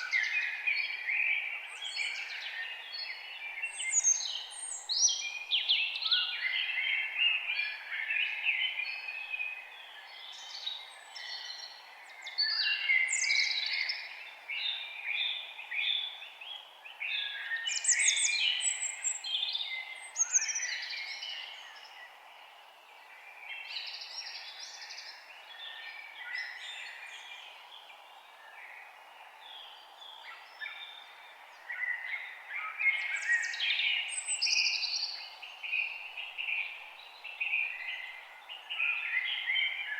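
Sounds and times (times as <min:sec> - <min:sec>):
faint background hiss: 0:00.0 - 0:39.9
songbirds singing and chirping: 0:00.0 - 0:39.9.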